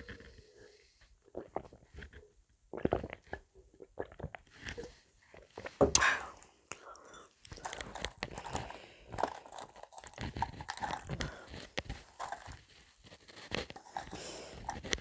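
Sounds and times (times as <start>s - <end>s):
meringue cookies crunching: 1.2s - 15.0s.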